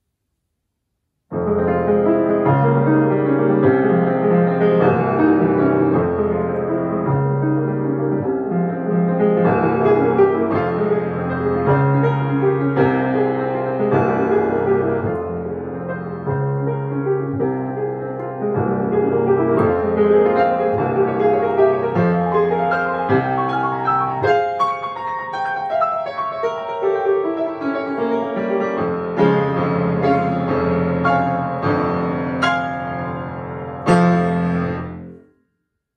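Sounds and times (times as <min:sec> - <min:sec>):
grand piano playing: 0:01.3 - 0:35.3.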